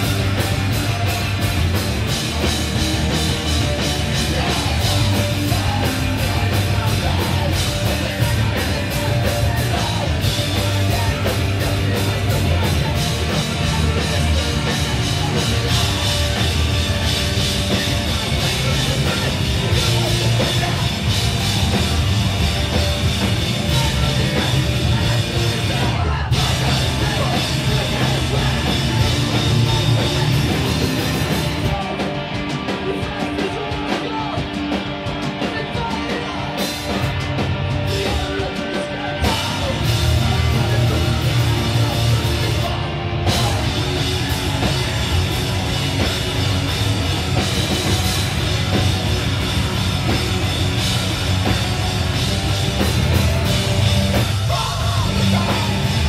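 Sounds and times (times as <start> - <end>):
punk band playing live: 0.0 - 56.0.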